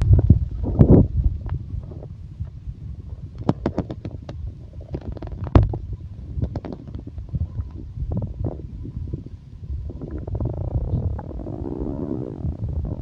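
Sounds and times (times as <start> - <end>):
stomach growling and gurgling: 0.0 - 13.0.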